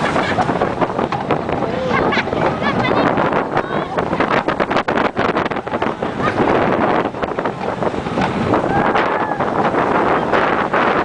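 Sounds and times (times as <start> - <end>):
roller coaster wheels rattling: 0.0 - 11.0
wind rushing over microphone: 0.0 - 11.0.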